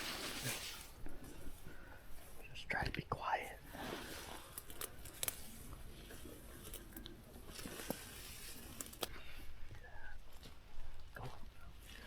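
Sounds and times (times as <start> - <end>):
soft rustling: 0.0 - 2.5, 3.4 - 12.0.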